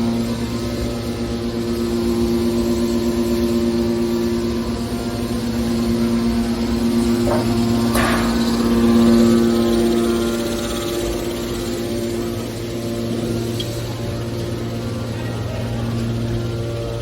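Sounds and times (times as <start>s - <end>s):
baler machine hum: 0.0s - 17.0s.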